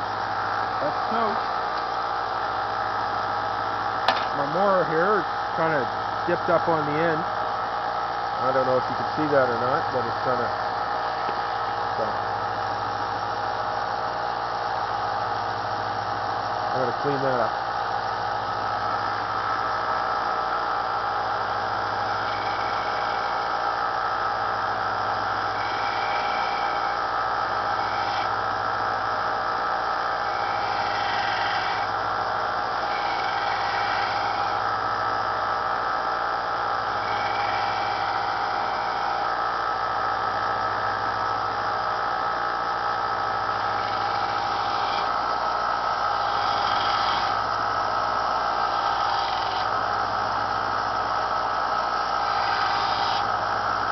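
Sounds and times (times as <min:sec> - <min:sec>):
belt sander running: 0:00.0 - 0:53.9.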